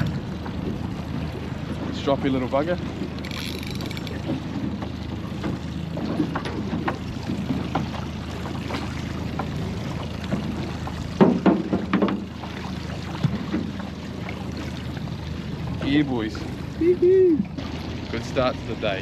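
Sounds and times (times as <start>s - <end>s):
boat humming on water: 0.0s - 19.0s.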